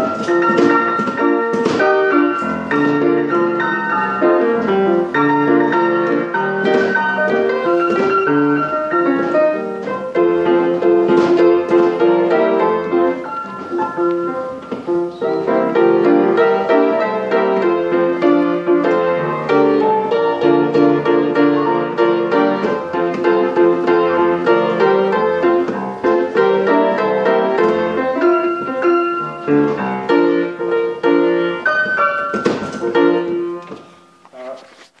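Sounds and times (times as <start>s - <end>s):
player piano playing: 0.0s - 35.0s.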